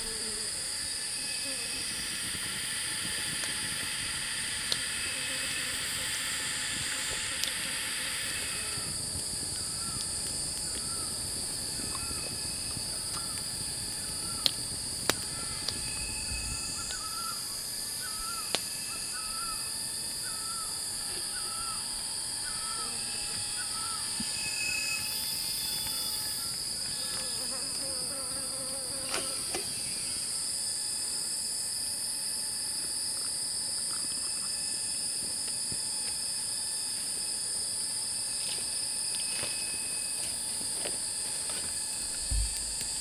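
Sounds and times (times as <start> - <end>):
high-pitched insect drone: 0.0 - 43.0.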